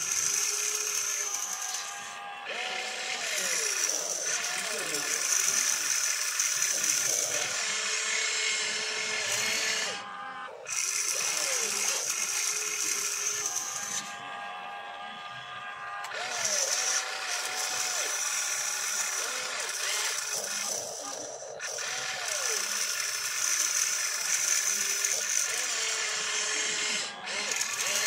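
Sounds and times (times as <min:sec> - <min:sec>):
toy excavator motors whining: 0:00.0 - 0:28.0.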